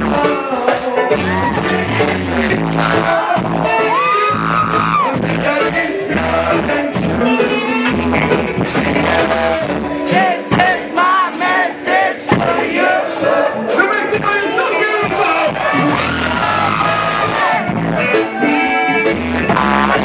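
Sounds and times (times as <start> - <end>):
person singing: 0.0 - 11.5, 12.3 - 20.0
reggae band playing: 0.0 - 20.0.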